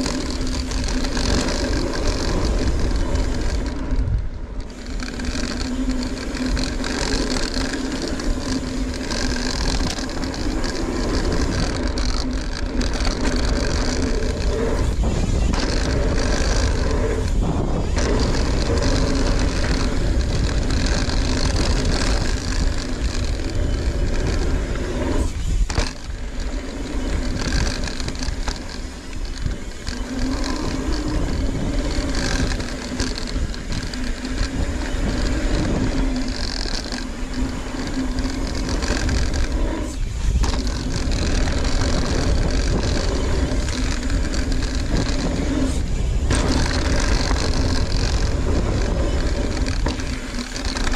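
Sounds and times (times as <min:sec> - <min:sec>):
bike tyres rumbling on dirt: 0:00.0 - 0:50.9
wind rushing over microphone: 0:00.0 - 0:50.9.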